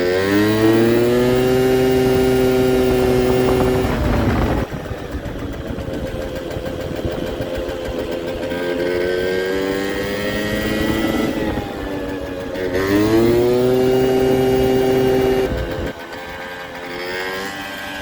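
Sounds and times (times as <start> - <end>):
scooter engine running unevenly: 0.0 - 18.0.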